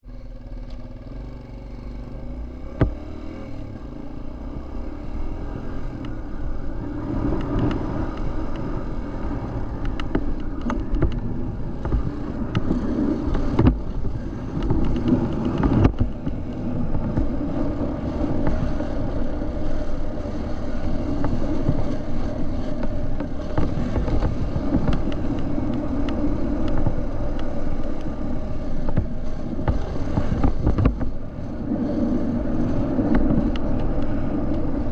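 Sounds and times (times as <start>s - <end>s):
dirt bike engine: 0.0s - 34.9s.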